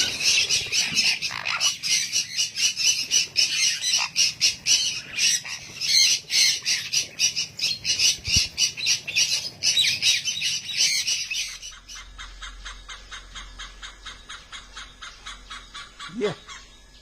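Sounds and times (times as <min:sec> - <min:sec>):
birds squawking: 0:00.0 - 0:17.0.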